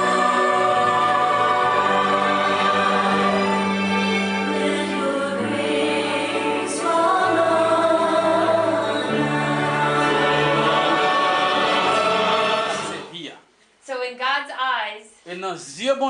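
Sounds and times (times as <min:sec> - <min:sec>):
choir singing a hymn: 0:00.0 - 0:13.1.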